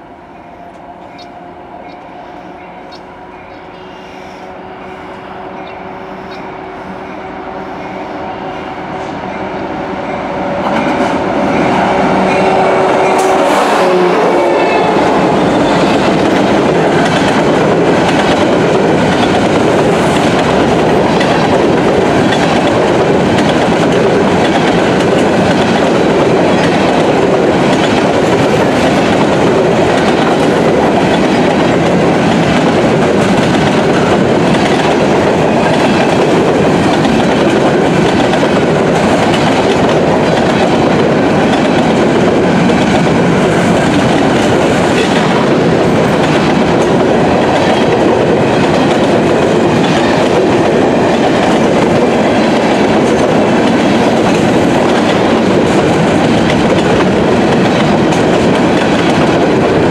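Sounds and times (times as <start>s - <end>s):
steel wheels on rail: 0.0s - 59.9s.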